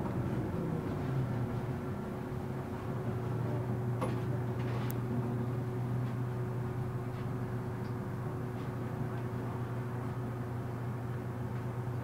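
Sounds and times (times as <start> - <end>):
bus interior running hum: 0.0 - 12.0.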